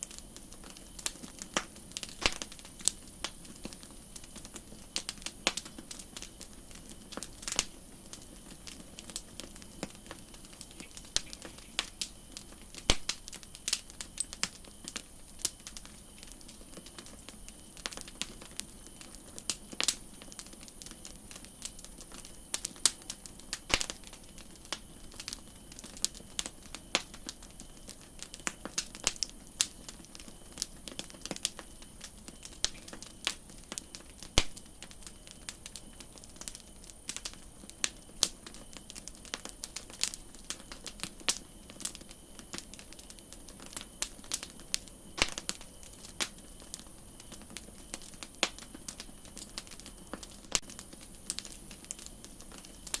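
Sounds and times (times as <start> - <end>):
wood campfire crackling: 0.0 - 53.0.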